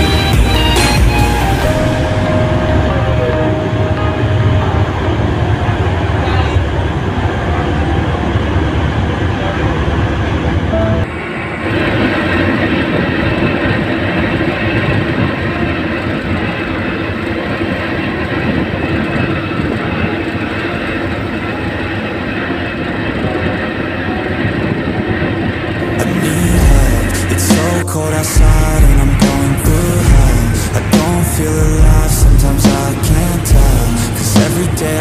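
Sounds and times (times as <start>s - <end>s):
ship machinery rumbling: 0.0s - 35.0s
steady machinery hum: 0.0s - 35.0s.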